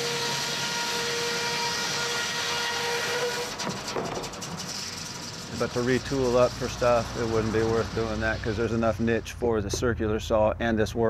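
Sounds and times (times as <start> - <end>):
rough stuttering saw noise: 0.0 - 9.3
circular saw whining: 0.0 - 9.4.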